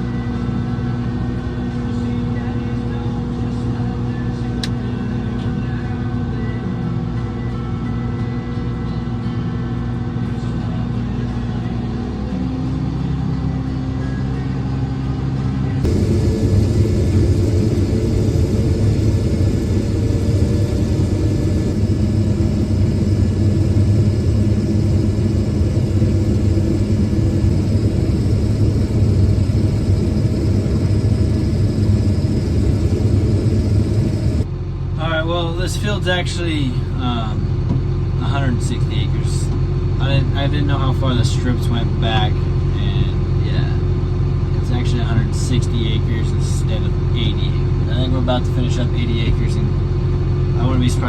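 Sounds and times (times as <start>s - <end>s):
diesel engine rumble: 0.0s - 51.0s.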